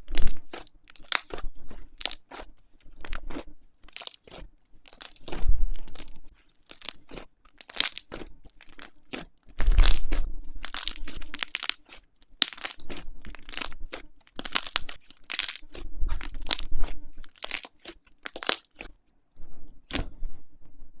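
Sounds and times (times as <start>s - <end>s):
slime crackling and popping: 0.0s - 18.9s.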